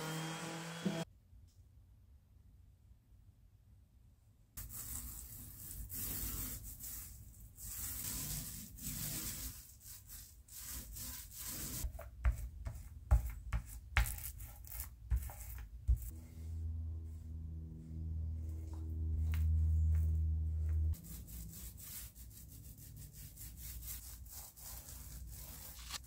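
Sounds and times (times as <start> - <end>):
paint brush rubbing on wood: 4.6 - 26.0.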